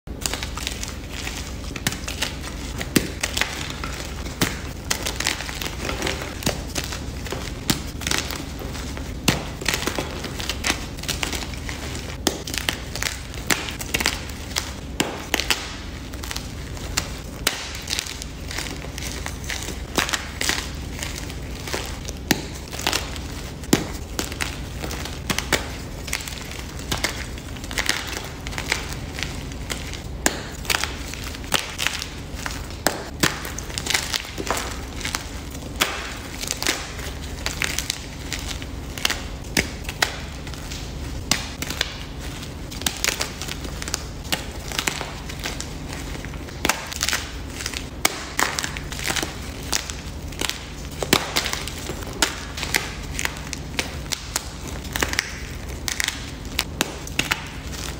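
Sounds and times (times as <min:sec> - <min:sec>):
chalk crunching and snapping: 0:00.1 - 0:57.9
powdery grinding: 0:00.1 - 0:57.9.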